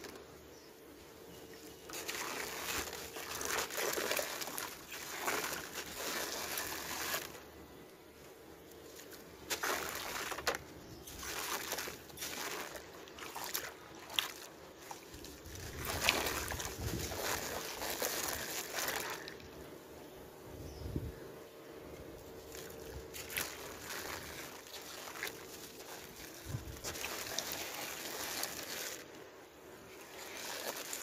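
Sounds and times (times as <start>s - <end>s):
sand trickling into water: 1.6s - 7.5s, 8.8s - 19.4s, 22.3s - 31.0s
wet sloshing and squelching: 1.8s - 7.4s, 8.9s - 19.6s, 22.4s - 31.0s.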